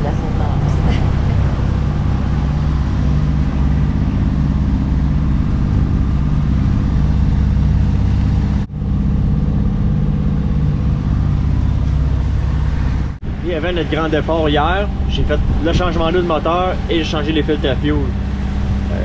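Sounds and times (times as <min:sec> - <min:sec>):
boat diesel engine droning: 0:00.0 - 0:19.0.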